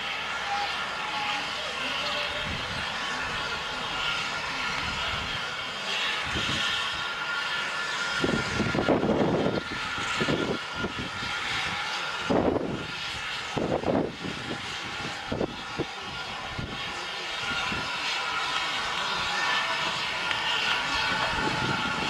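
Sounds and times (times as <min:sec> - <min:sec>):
locomotive exhaust chuffs: 0:00.0 - 0:22.0
steam hissing: 0:00.0 - 0:22.0.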